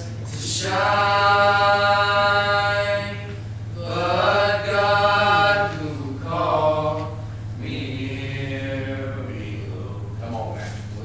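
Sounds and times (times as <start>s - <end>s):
male voices singing a hymn: 0.0s - 11.0s.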